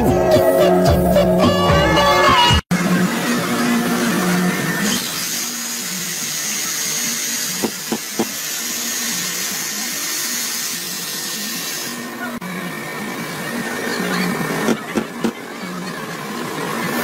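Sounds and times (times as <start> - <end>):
rotary hammer drilling concrete: 2.8 - 17.0.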